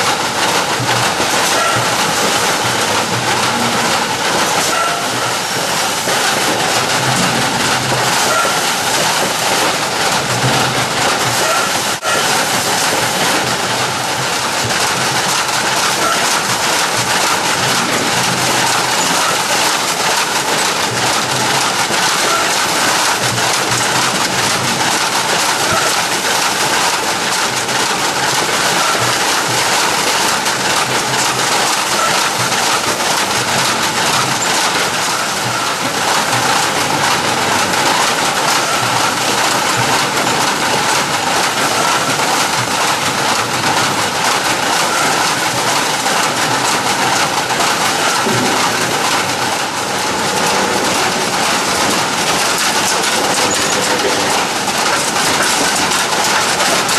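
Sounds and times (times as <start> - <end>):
fruit clattering on roller conveyor: 0.0 - 56.9.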